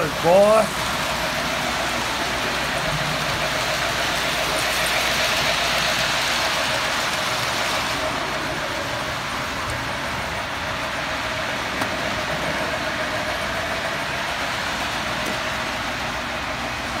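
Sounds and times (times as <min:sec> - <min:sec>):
model train motor whirring: 0:00.0 - 0:16.1.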